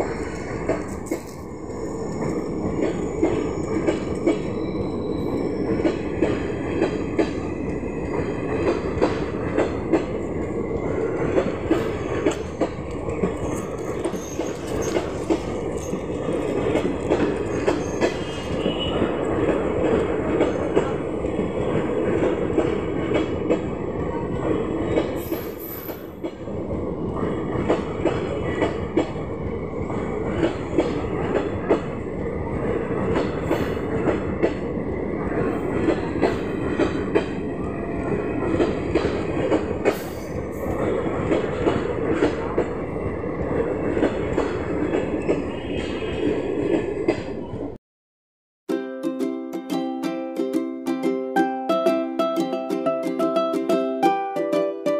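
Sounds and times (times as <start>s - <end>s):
sharp clacks of train wheels: 0.0s - 47.4s
train wheels rumbling on rails: 0.0s - 47.8s.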